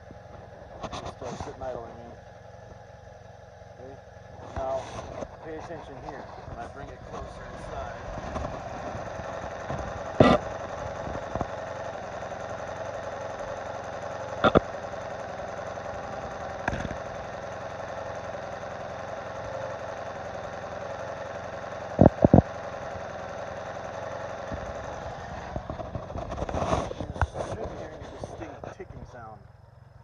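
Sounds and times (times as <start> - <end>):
motorcycle engine idling: 0.0 - 30.0
rapid engine ticking: 0.0 - 30.0.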